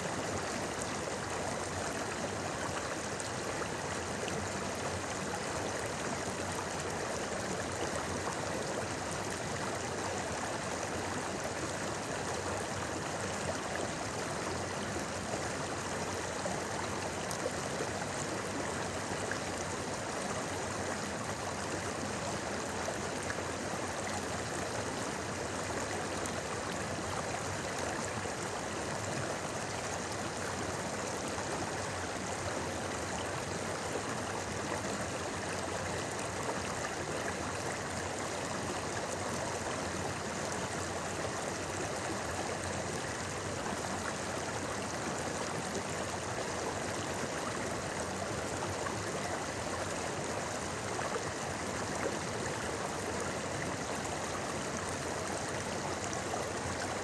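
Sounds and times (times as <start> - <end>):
shallow river babbling: 0.1 - 57.0.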